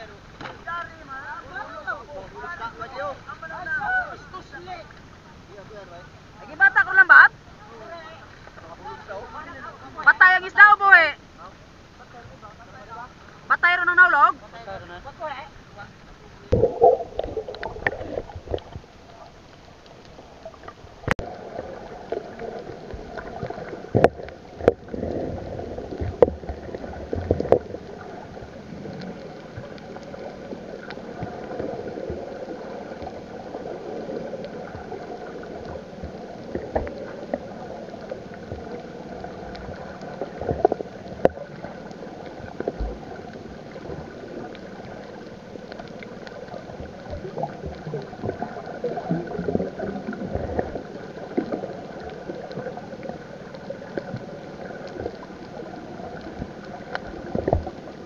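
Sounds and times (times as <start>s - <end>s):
muffled underwater gurgling: 0.0s - 58.0s.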